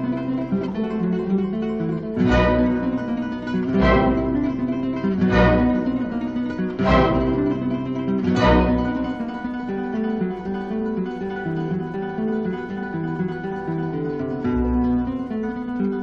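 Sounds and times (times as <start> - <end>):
acoustic guitar plucked notes: 0.0 - 16.0
strummed guitar chord: 0.0 - 16.0.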